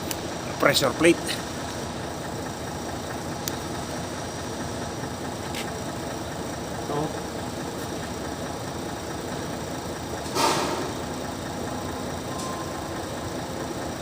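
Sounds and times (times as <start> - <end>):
machine rumble: 0.0 - 14.0.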